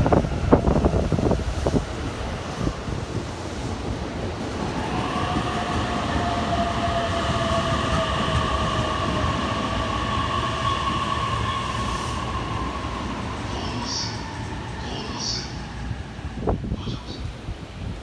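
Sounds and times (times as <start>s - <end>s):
electric train whine: 0.0s - 16.8s
train rumble: 0.0s - 18.0s
wind buffeting microphone: 0.0s - 18.0s.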